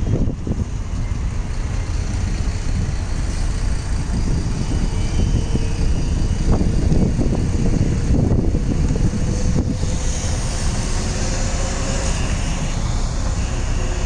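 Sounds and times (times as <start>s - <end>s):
tram rumbling past: 0.0s - 14.0s.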